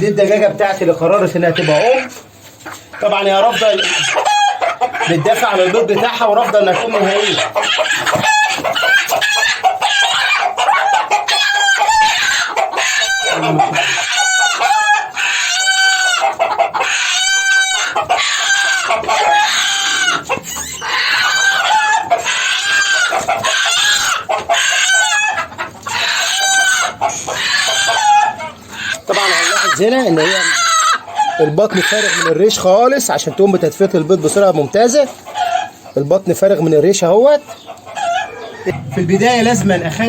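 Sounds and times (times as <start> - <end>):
hen squawking and clucking: 1.1 - 36.0, 37.0 - 40.0.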